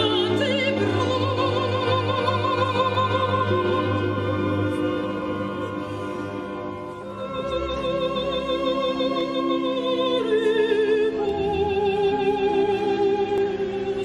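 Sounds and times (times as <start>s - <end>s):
opera singer with vibrato: 0.0s - 5.9s, 6.8s - 14.0s
orchestral accompaniment: 0.0s - 14.0s.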